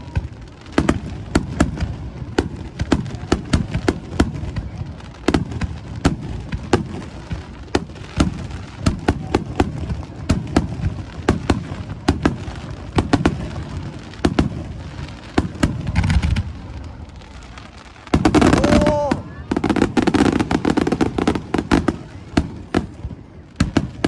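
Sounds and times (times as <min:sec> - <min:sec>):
fireworks bangs and booms: 0:00.0 - 0:24.0
fireworks crackling hiss: 0:00.0 - 0:24.0.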